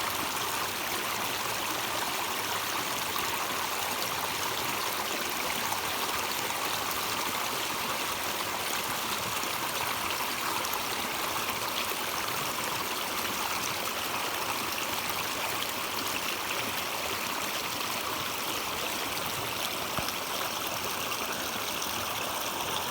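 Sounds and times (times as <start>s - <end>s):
stream flowing over rocks: 0.0s - 22.9s.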